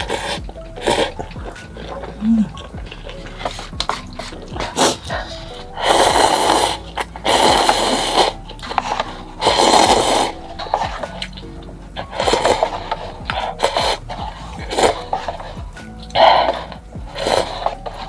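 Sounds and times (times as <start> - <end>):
person slurping noodles: 0.0 - 18.0
soft background music: 0.0 - 18.0.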